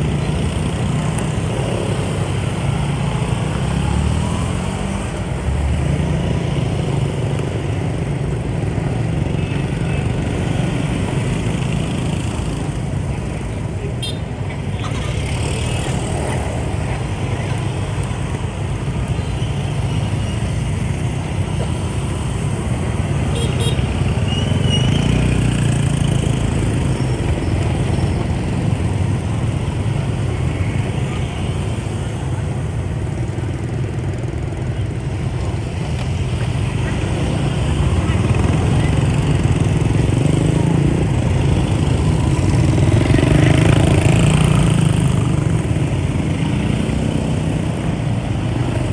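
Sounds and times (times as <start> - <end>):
motorbike engines rumbling: 0.0 - 48.9.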